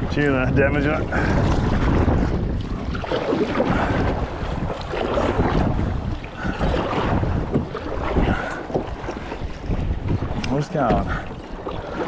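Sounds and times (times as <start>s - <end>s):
water sloshing against kayak: 0.0s - 12.0s
wind buffeting microphone: 0.0s - 12.0s.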